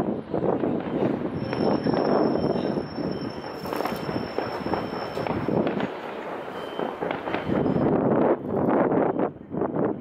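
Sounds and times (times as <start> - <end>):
distant fireworks crackling: 0.0 - 10.0.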